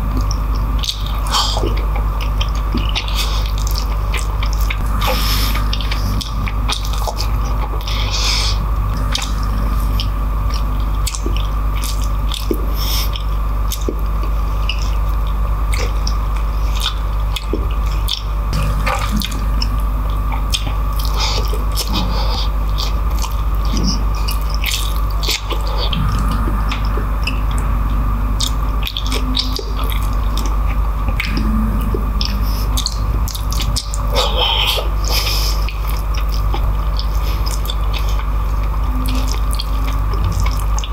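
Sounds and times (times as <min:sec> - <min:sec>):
wet chewing and lip-smacking: 0:00.0 - 0:27.8, 0:28.4 - 0:40.9.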